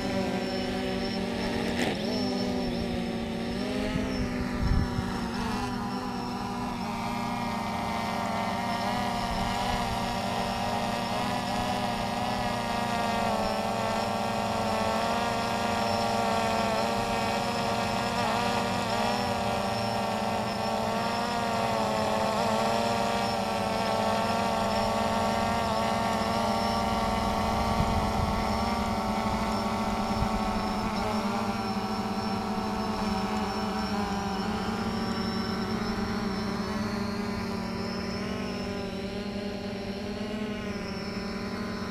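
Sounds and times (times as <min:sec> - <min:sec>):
drone propellers whining: 0:00.0 - 0:41.9.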